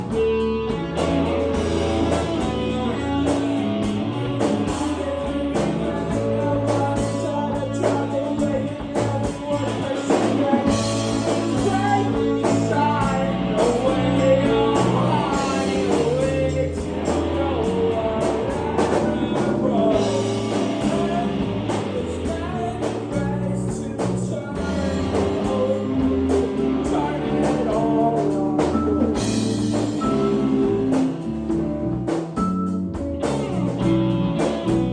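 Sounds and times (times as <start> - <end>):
bass: 0.0 - 34.9
drum kit: 0.0 - 34.9
guitar: 0.0 - 34.9
person singing: 1.6 - 31.4.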